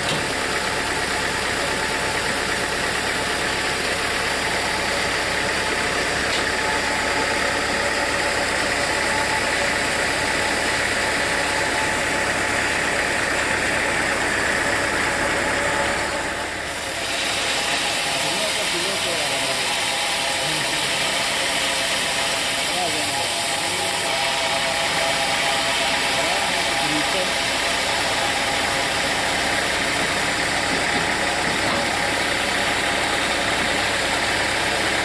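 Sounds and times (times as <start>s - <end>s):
sawmill machinery droning: 0.0s - 35.0s.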